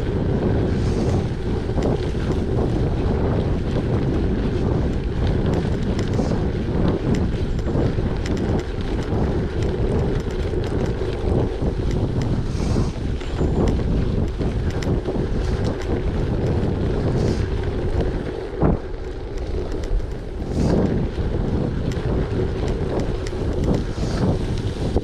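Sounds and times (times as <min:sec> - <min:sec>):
bike tyres rumbling: 0:00.0 - 0:25.0
small ticks and crackles: 0:00.0 - 0:25.0
wind buffeting microphone: 0:00.0 - 0:25.0.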